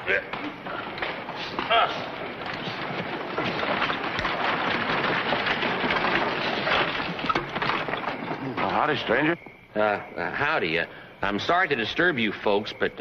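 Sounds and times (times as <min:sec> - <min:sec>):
hooves and wooden wheels clattering: 0:00.0 - 0:13.0.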